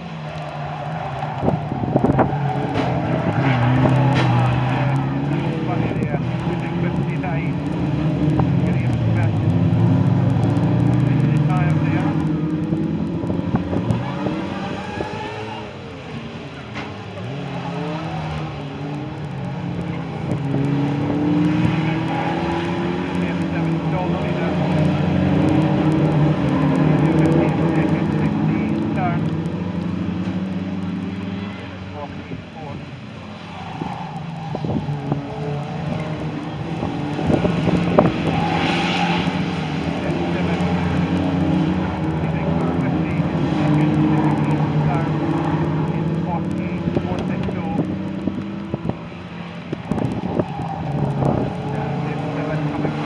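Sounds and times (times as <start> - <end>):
race car engines passing: 0.0 - 53.0.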